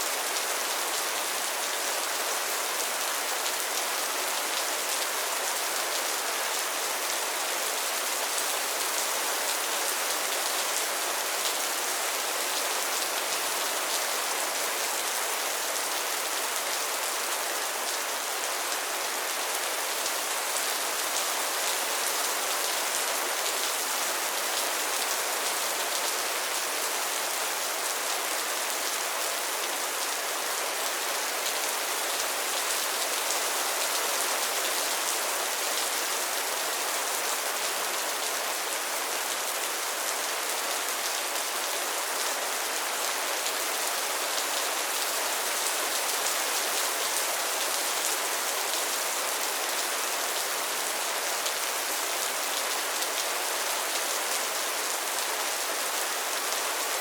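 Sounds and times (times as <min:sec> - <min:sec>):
rain falling on pond water: 0:00.0 - 0:57.0.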